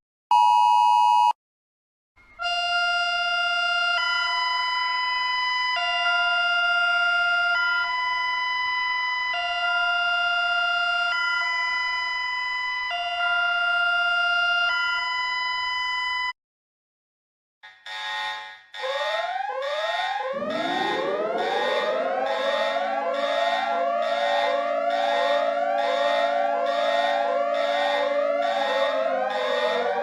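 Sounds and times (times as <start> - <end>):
two-tone alarm siren: 2.4 - 16.3, 17.9 - 30.0.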